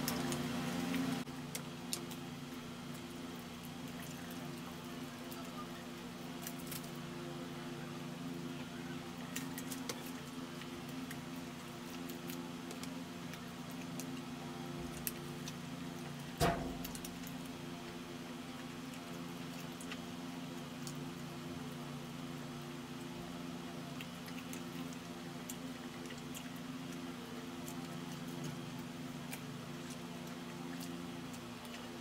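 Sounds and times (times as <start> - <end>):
fried chicken tearing and chewing: 0.0 - 7.1, 9.1 - 32.0.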